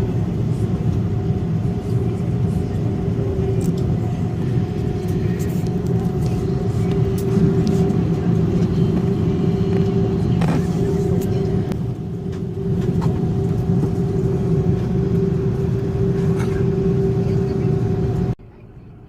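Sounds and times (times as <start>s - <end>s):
airliner cabin rumble: 0.0s - 19.0s
steady hum: 0.0s - 19.0s.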